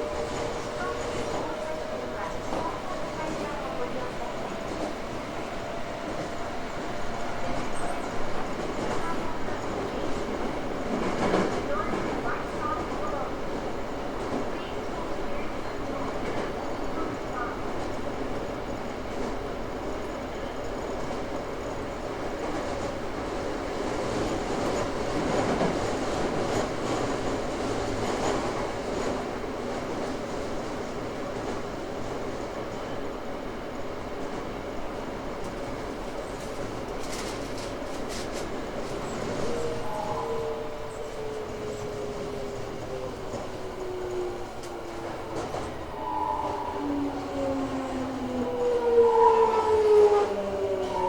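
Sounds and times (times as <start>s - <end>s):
subway train wheels rolling: 0.0s - 51.0s.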